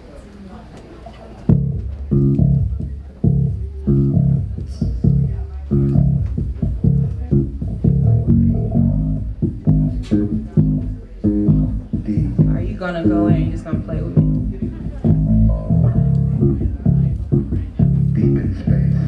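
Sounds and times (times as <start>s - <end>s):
electric bass and guitar playing: 1.5s - 19.0s.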